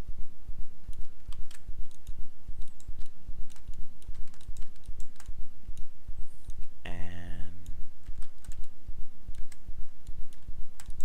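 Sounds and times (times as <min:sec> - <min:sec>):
keyboard and mouse clicks: 0:00.9 - 0:06.7, 0:07.6 - 0:11.0.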